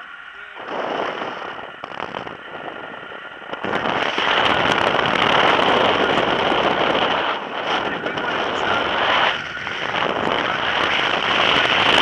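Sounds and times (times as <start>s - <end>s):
wind buffeting microphone: 0.3s - 12.0s.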